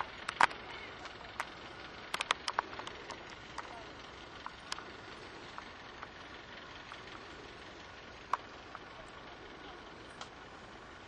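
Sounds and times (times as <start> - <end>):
light clicks and ticks: 0.0 - 7.2, 8.2 - 10.5
faint outdoor hiss: 0.0 - 11.0.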